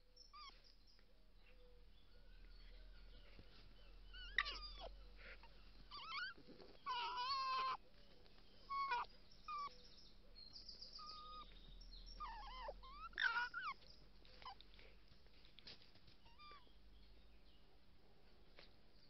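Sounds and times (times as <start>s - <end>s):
fox cubs whining and squealing: 0.0s - 16.9s.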